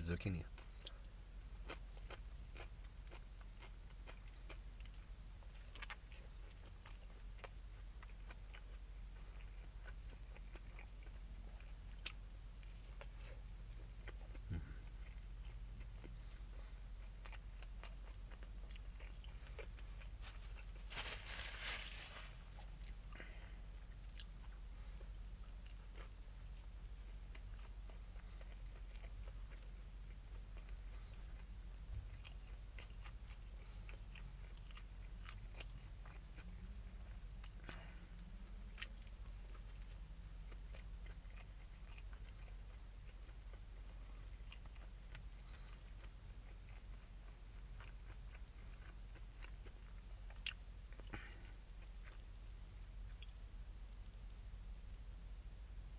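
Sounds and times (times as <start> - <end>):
low steady hum: 0.0 - 55.9
person chewing crispy food: 0.2 - 55.4.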